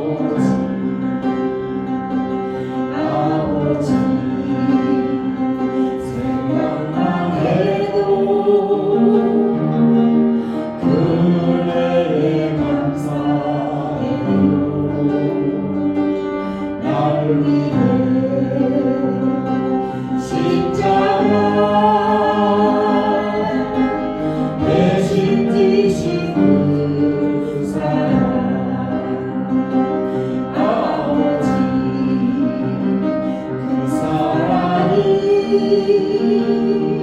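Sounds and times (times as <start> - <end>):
group singing worship song: 0.0 - 37.0
instrumental accompaniment: 0.0 - 37.0.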